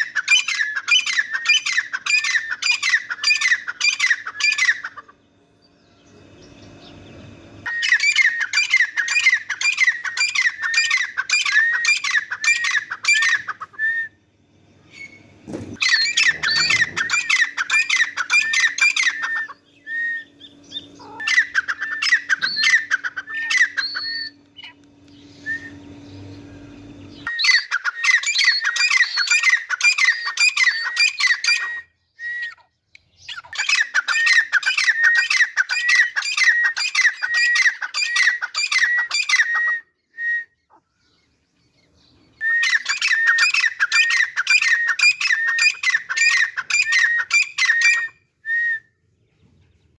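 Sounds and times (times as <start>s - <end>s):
shrill bird calls: 0.0s - 49.9s.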